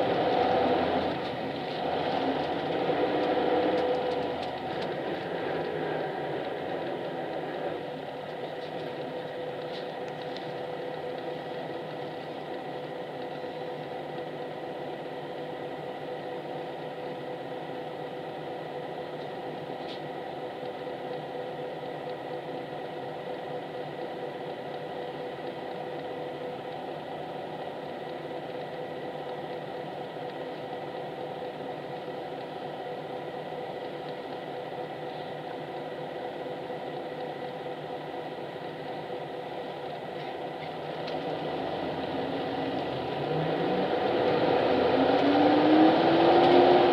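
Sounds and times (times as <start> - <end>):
bus diesel engine idling: 0.0 - 43.2.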